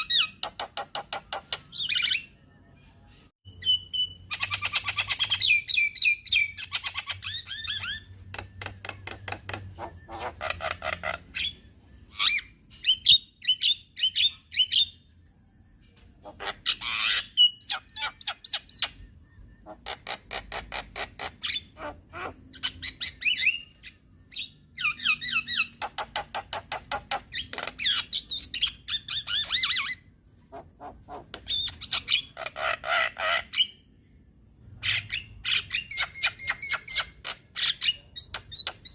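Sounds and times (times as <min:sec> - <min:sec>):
bird chattering and squawking: 0:00.0 - 0:02.3, 0:03.6 - 0:14.9, 0:16.2 - 0:33.9, 0:34.8 - 0:38.9.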